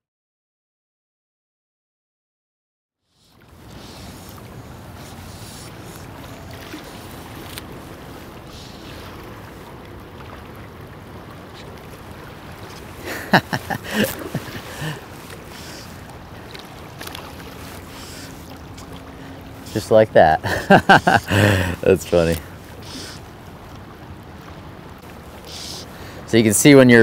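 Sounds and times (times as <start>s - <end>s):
river current rushing: 3.2s - 27.0s.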